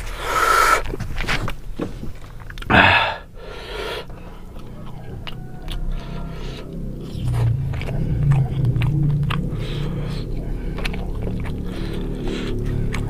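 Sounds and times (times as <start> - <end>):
loud breathy noise: 0.0 - 1.0, 2.7 - 4.8, 5.4 - 13.0
person chewing food: 0.0 - 13.0.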